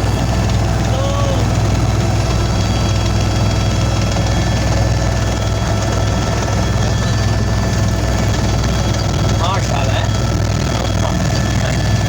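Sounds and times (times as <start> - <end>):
helicopter running: 0.0 - 12.0.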